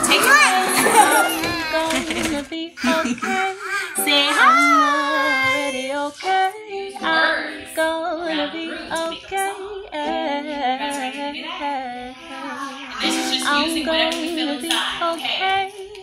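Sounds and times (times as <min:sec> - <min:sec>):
children singing: 0:00.0 - 0:16.0
woman singing: 0:00.0 - 0:16.0.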